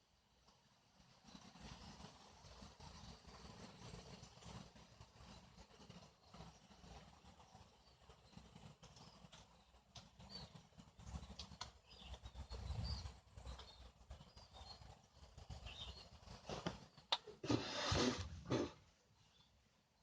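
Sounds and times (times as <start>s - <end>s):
small birds chirping: 1.0s - 18.2s, 18.9s - 20.0s.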